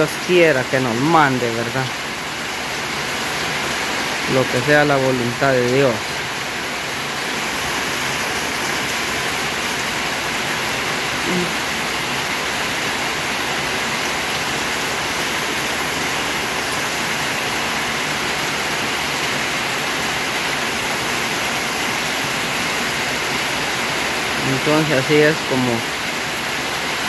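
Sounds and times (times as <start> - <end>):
heavy rain on a metal roof: 0.0 - 27.0
water running off roof: 0.0 - 27.0.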